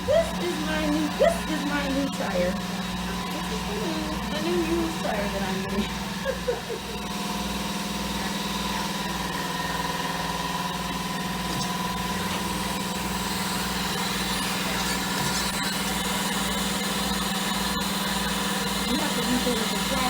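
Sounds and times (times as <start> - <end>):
machine motor hum with low throb: 0.0 - 20.0.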